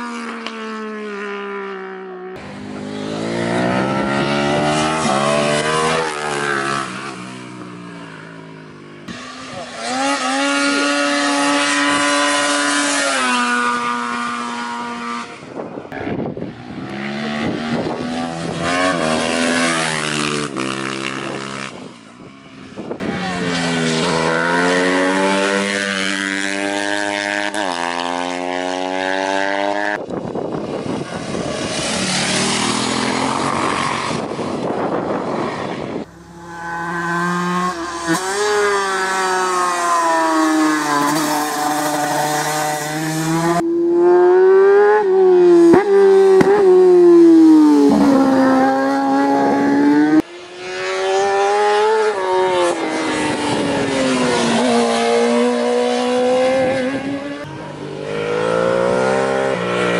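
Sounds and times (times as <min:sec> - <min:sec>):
racing engines passing: 0:00.0 - 0:59.9.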